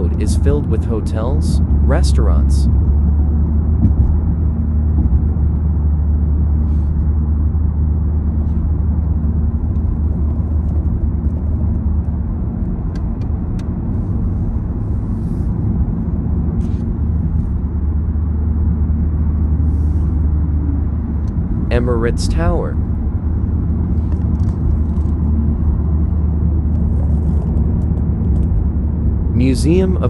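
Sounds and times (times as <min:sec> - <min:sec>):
car interior road rumble: 0:00.0 - 0:30.0.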